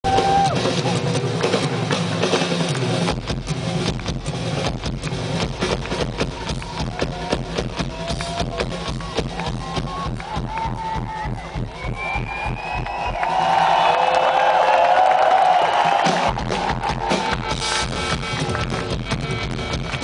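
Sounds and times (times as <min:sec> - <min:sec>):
drums and cymbals: 0:00.0 - 0:13.9, 0:15.2 - 0:20.0.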